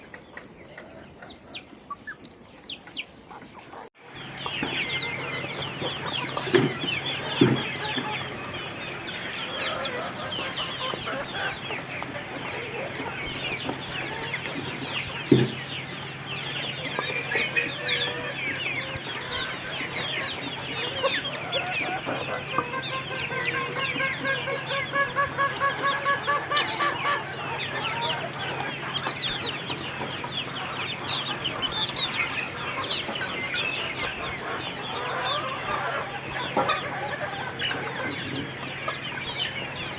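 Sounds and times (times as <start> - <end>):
chicks peeping: 0.0 - 39.9
steady low hum: 4.0 - 39.9.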